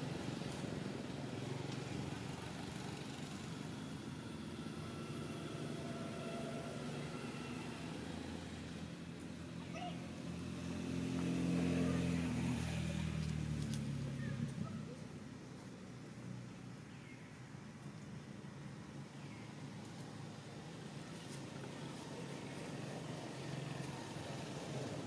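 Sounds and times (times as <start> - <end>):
low engine hum: 0.0 - 25.0.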